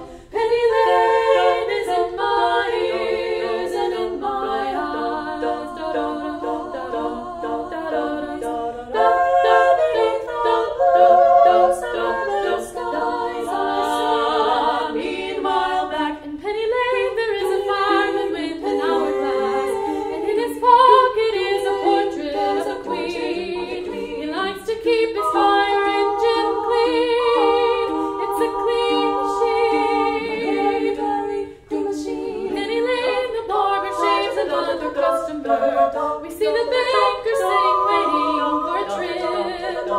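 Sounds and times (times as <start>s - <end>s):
women singing a cappella: 0.0s - 39.9s.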